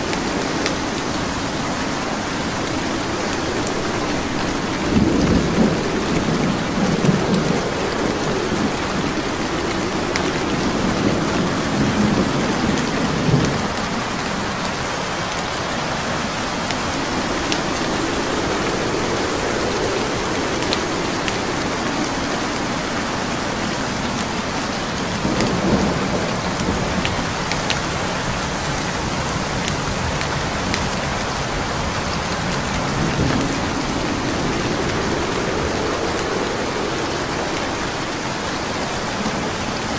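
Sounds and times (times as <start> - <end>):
burning wood crackling: 0.0 - 39.9
heavy rain: 0.0 - 39.9
low rumbles of thunder: 0.0 - 39.9.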